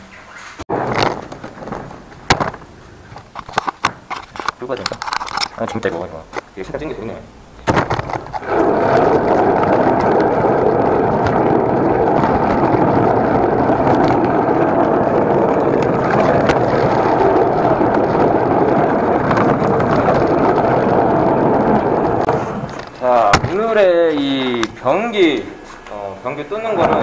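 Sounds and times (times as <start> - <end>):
cart wheels rolling on concrete: 0.3 - 27.0.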